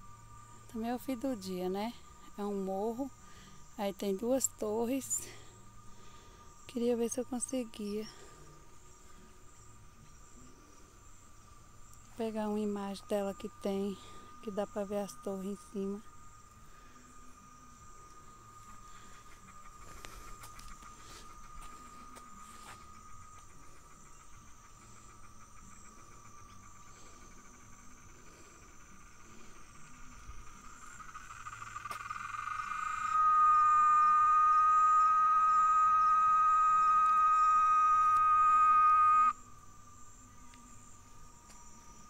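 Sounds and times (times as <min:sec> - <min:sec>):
cicada buzzing: 0:00.0 - 0:42.0
faint insect drone: 0:00.0 - 0:42.0.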